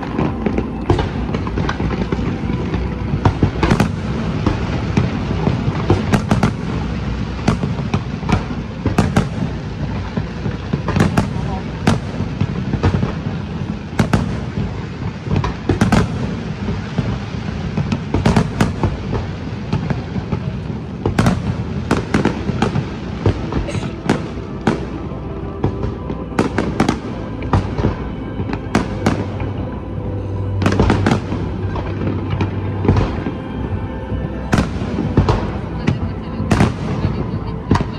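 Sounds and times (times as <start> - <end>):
fireworks rumble and crackle: 0.0 - 37.9.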